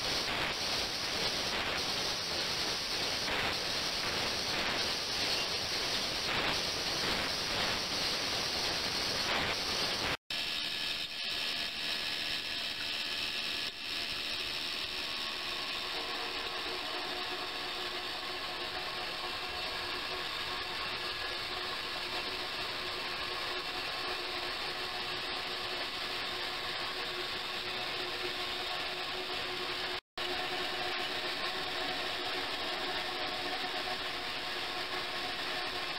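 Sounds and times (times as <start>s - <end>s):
ultrasonic cleaner buzz and hum: 0.0s - 35.9s.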